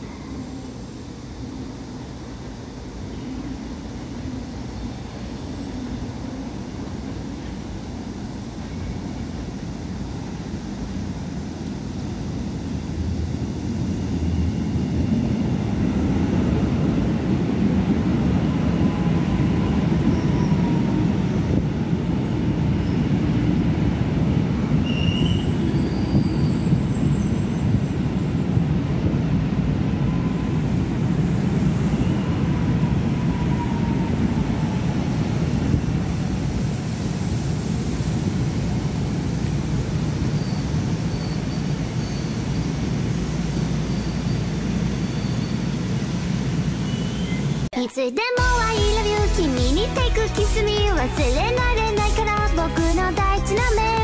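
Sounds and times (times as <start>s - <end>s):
train wheels rumbling on rail: 0.0s - 47.7s.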